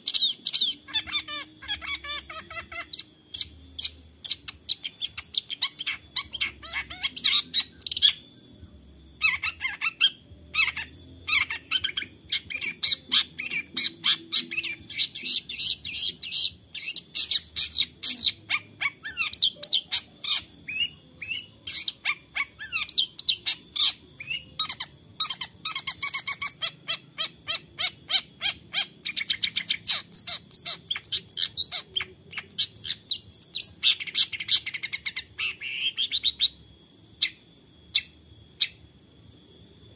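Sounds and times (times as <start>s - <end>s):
bird singing fast chirping notes: 0.0s - 38.9s.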